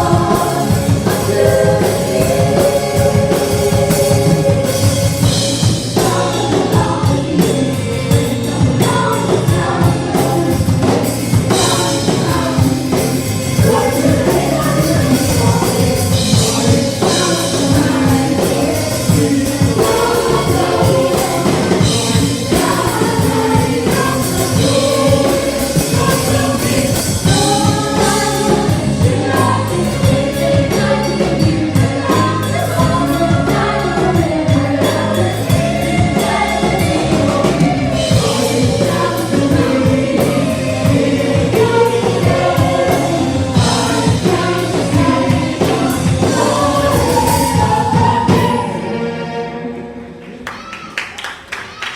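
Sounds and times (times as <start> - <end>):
choir singing gospel: 0.0 - 50.4
band accompaniment: 0.0 - 51.8.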